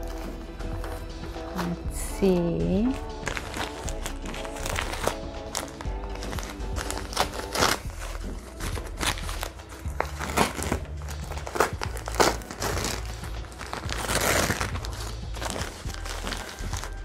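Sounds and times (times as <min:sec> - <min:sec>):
plastic packaging crinkling: 0:02.9 - 0:17.0.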